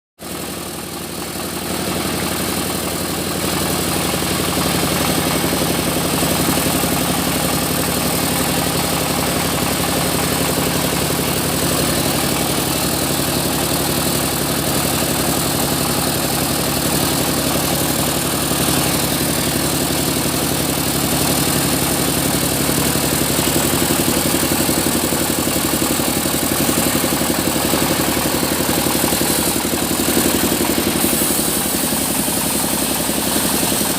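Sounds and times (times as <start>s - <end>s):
sawmill machinery droning: 0.2s - 33.9s.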